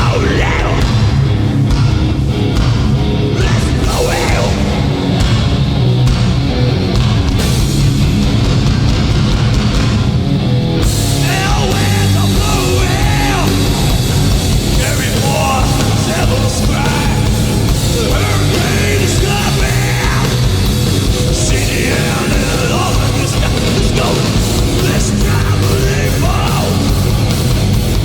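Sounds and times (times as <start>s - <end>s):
bass and drums: 0.0s - 28.0s
distorted guitars: 0.0s - 28.0s.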